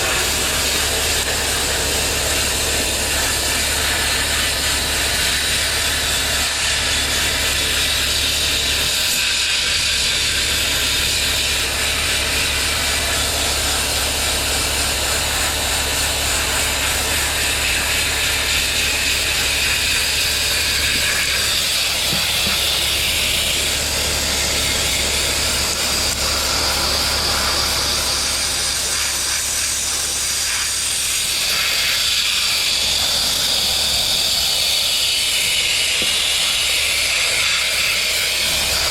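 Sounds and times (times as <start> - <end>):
constant low hum: 0.0 - 38.9
sandblaster hissing on metal: 0.0 - 38.9.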